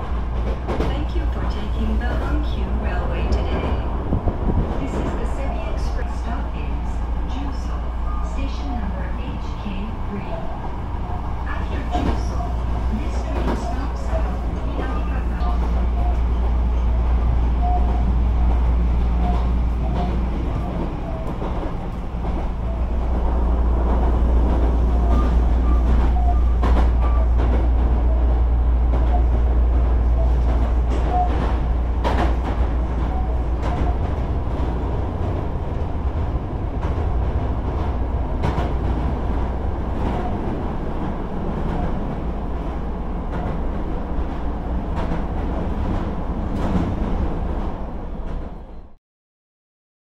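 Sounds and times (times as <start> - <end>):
electric train rumbling: 0.0 - 49.0.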